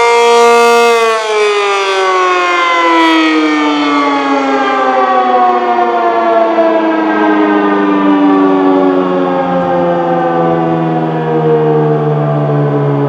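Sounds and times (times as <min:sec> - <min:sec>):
warning siren winding down: 0:00.0 - 0:13.0.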